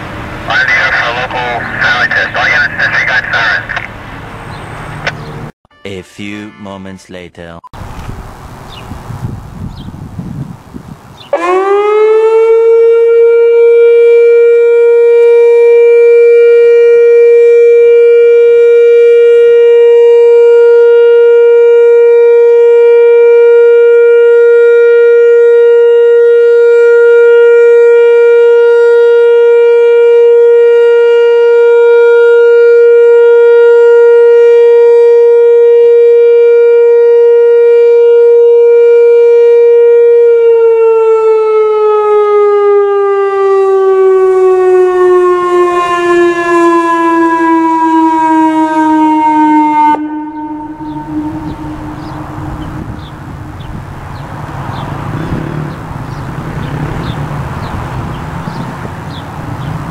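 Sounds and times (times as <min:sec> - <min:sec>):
warning siren steady tone: 0:00.2 - 0:03.7, 0:11.3 - 0:54.4, 0:55.0 - 0:59.9.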